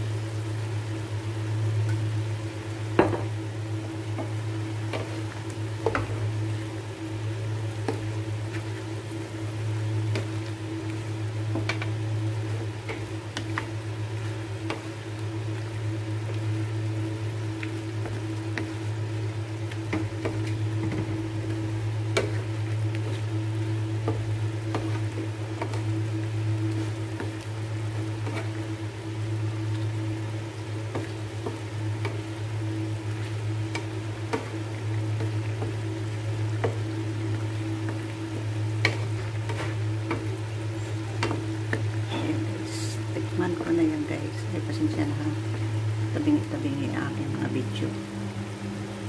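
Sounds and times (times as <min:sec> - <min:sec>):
food sizzling in a wok: 0:00.0 - 0:49.0
steady low hum: 0:00.0 - 0:49.0.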